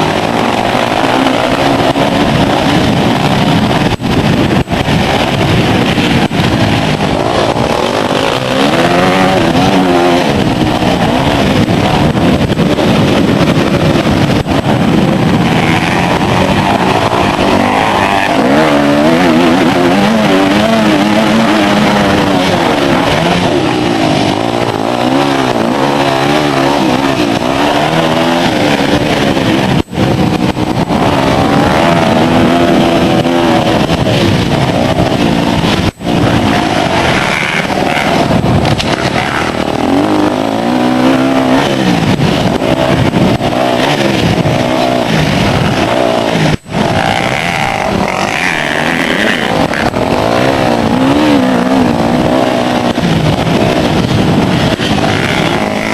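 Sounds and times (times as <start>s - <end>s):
motorcycle engines revving: 0.0s - 55.9s.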